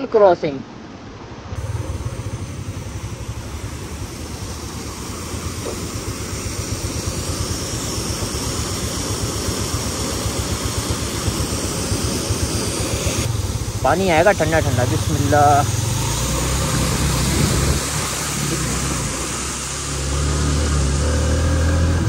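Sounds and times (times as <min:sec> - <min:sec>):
motorcycle engine rumbling: 0:01.4 - 0:22.0
waterfall rushing: 0:01.6 - 0:21.9.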